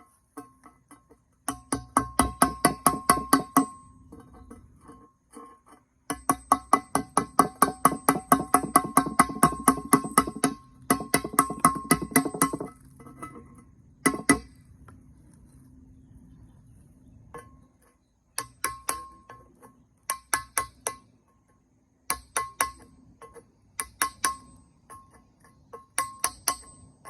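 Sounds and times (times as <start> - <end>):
tool tapping on ringing kiln shelf: 0.4 - 5.1, 6.1 - 14.6, 17.4 - 27.0.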